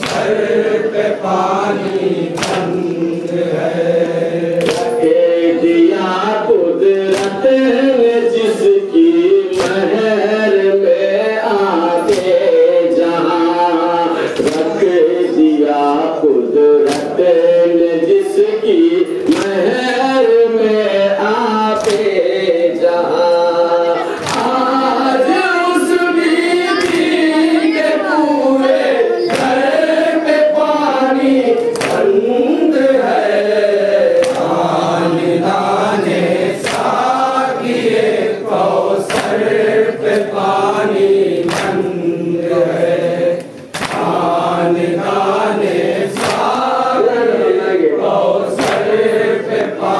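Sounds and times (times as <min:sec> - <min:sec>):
group chanting in chorus: 0:00.0 - 0:49.9.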